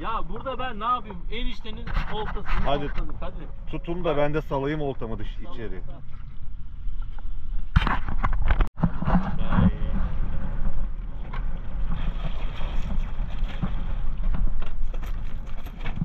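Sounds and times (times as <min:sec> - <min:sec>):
wind on microphone: 0:01.2 - 0:04.0, 0:05.8 - 0:16.0.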